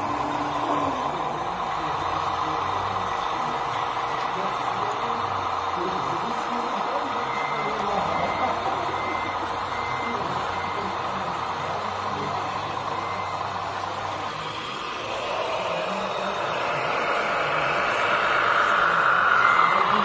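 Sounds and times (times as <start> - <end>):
reversing beeper: 0.0 - 20.0.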